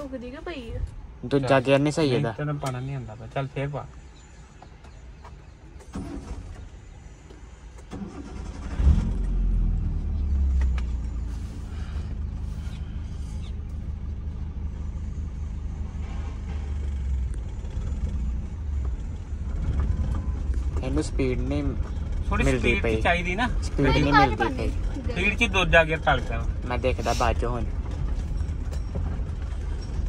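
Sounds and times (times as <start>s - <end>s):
car engine cranking and running: 3.9s - 30.0s.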